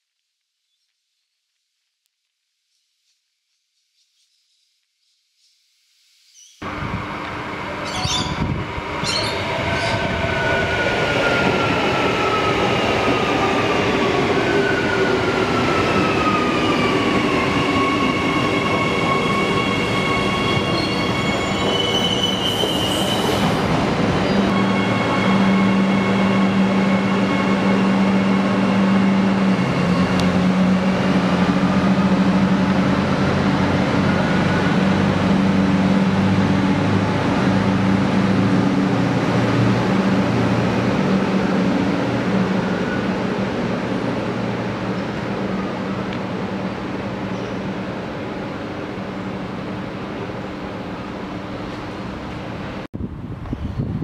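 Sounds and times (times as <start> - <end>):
train low hum: 6.6 - 54.0.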